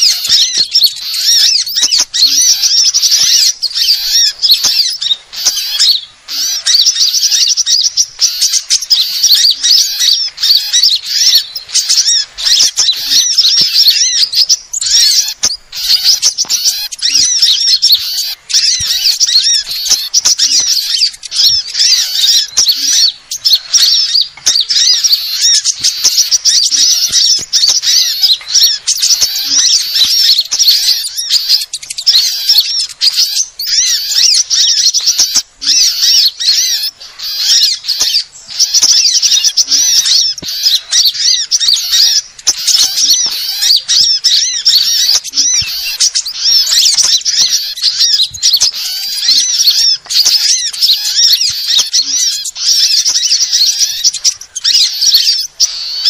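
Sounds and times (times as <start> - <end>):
sunbirds chirping and twittering: 0.0 - 56.0.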